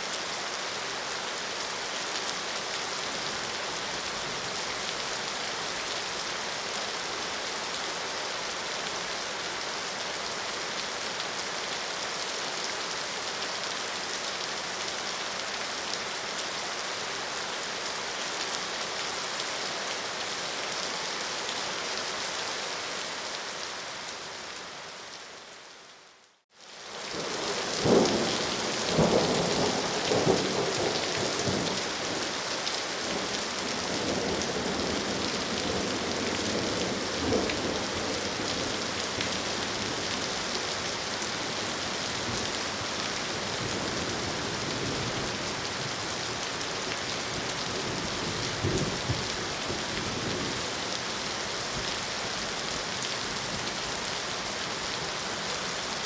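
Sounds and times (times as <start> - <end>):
rain hiss: 0.0 - 26.0, 26.6 - 56.0.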